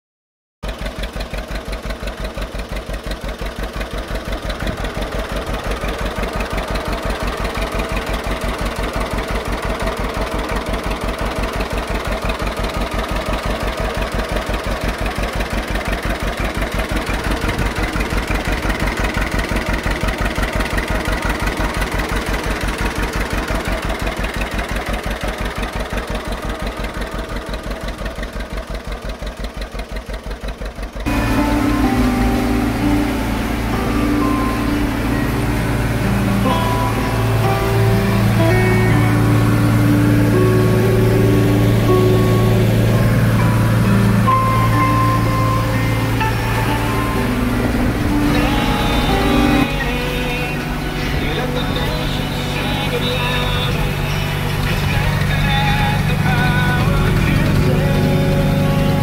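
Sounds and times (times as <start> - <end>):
tractor engine idling: 0.6 - 59.0.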